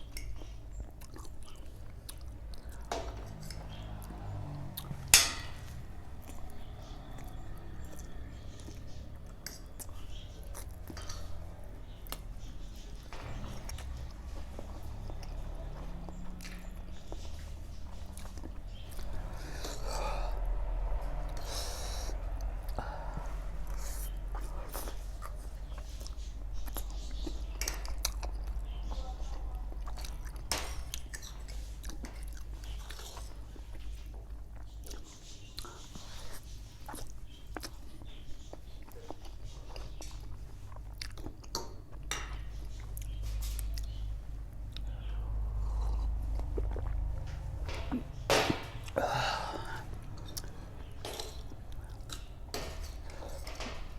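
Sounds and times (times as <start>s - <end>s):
steady low hum: 0.0s - 53.9s
wet chewing of noodles: 0.0s - 53.9s.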